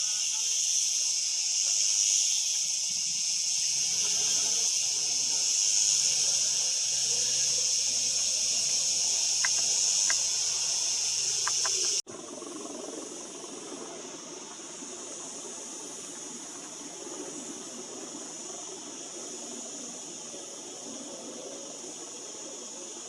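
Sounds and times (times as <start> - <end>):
cicadas shrilling: 0.0 - 23.0.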